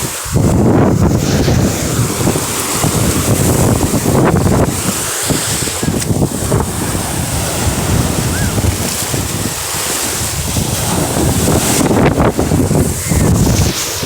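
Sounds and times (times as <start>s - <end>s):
sea waves: 0.0s - 14.0s
wind buffeting microphone: 0.0s - 14.0s.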